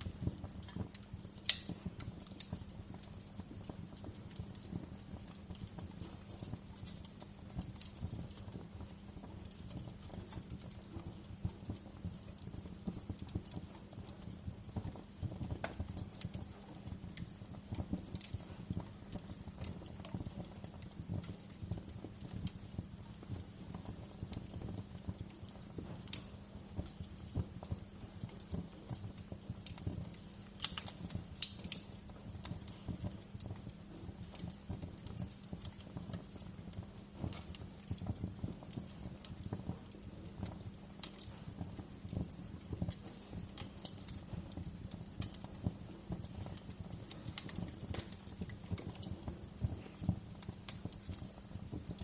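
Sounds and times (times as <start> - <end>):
sharp pops of fire: 0.0 - 52.0
wood fire crackling: 0.0 - 52.0.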